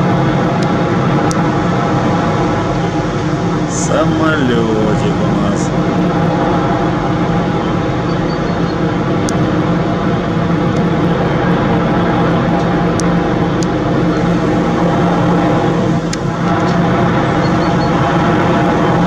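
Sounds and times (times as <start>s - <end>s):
loud mechanical drone: 0.0s - 19.0s.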